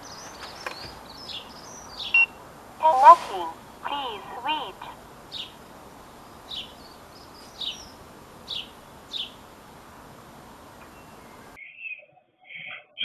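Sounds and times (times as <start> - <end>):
background hiss: 0.0 - 11.6
small bird chirping: 0.0 - 12.8.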